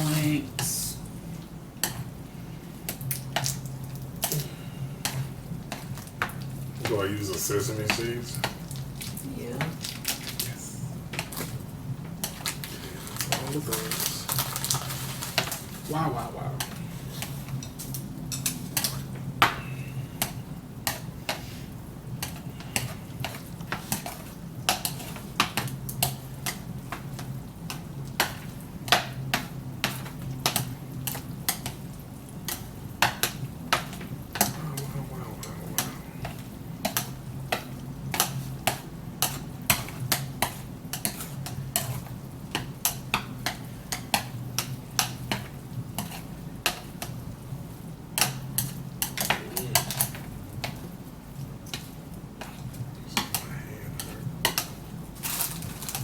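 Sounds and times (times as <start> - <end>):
utensils clicking against bowls: 0.0 - 2.1, 2.9 - 10.5, 11.1 - 21.4, 22.2 - 47.2, 48.2 - 51.0, 51.6 - 56.0
steady low hum: 0.0 - 56.0.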